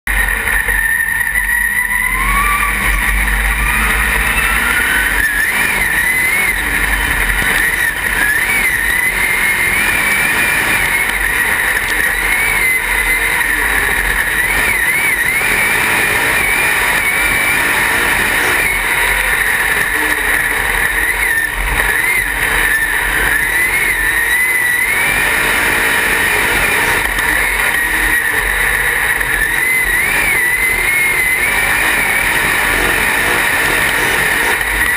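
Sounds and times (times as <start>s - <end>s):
race car engine at high revs: 0.0s - 34.9s.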